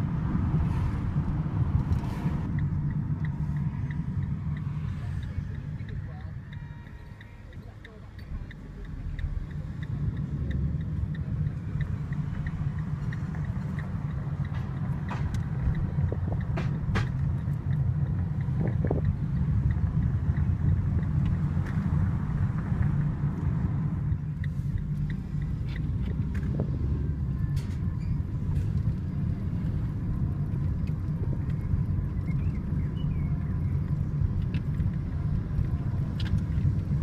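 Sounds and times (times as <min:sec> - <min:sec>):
car engine and road noise: 0:00.0 - 0:37.0
sharp clicks and knocks: 0:01.8 - 0:32.4.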